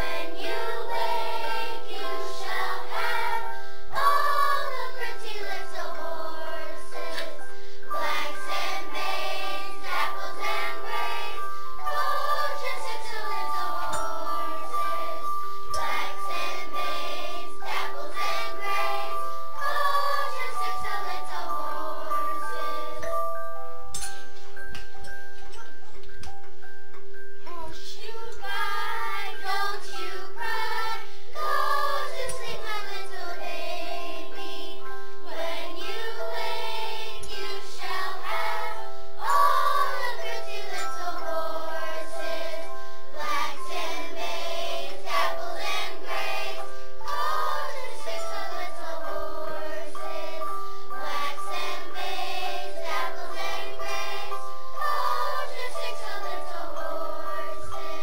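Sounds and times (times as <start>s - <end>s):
children singing lullaby: 0.0s - 58.0s.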